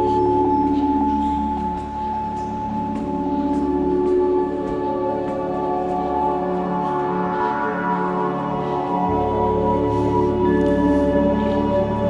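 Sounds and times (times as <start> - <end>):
ambient music with bell-like tones: 0.0 - 12.0.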